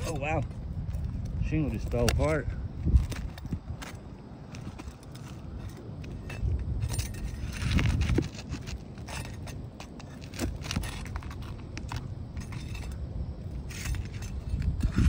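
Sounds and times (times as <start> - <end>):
pry bar scraping shingles: 1.8 - 15.0.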